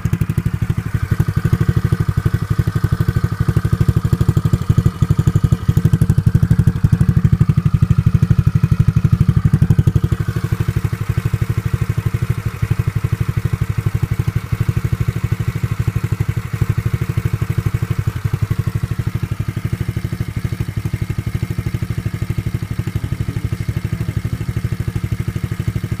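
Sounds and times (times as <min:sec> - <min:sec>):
pit bike engine idling: 0:00.0 - 0:26.0.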